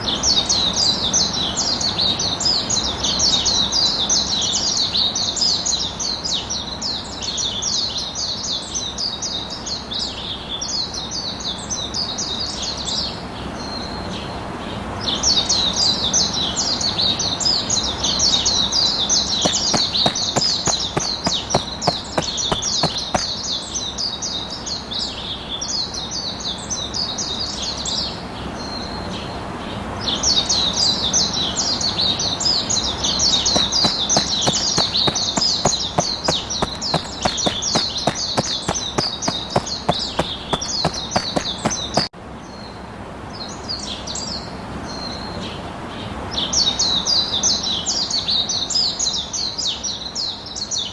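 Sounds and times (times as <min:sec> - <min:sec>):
small birds chirping and twittering: 0:00.0 - 0:50.9.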